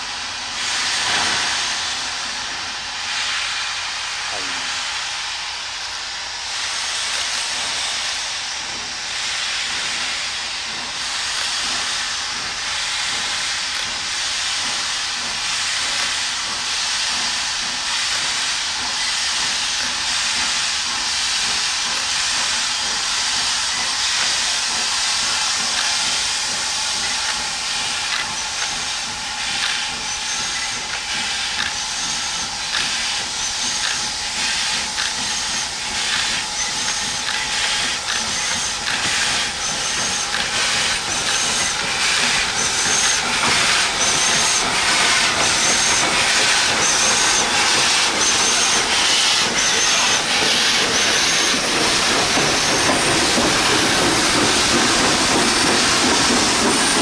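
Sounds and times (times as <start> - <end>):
steam hissing: 0.0 - 57.0
steam locomotive chuffs: 0.0 - 57.0.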